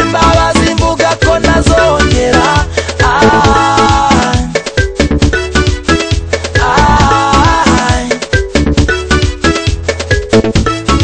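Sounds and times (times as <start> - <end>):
pop music with steady beat: 0.0 - 11.0.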